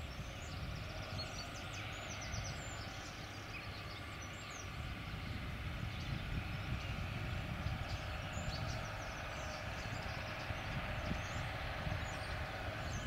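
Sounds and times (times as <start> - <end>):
distant tractor engine rumble: 0.0 - 13.0.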